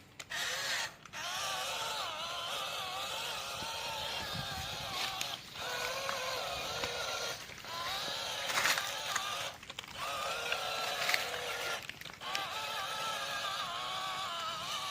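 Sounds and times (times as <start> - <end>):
toy electric motor whining: 0.0 - 14.9.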